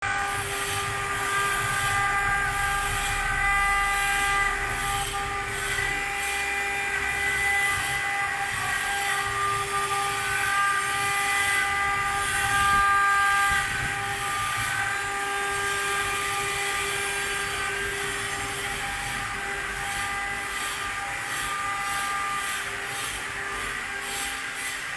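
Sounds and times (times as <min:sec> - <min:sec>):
spindle high whine: 0:00.0 - 0:23.9.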